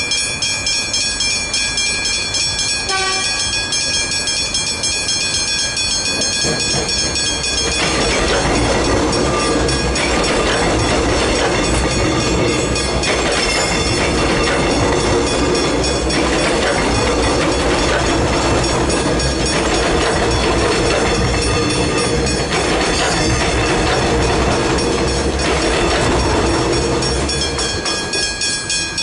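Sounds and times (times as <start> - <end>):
level crossing bells ringing: 0.0 - 29.0
passing train rumble: 0.0 - 29.0.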